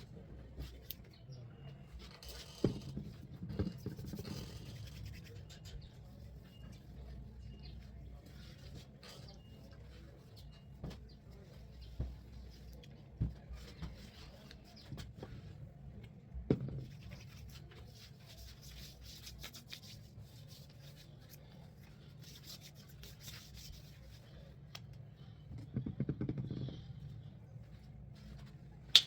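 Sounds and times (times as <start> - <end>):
rubbing and rustling handling noise: 1.8 - 28.9.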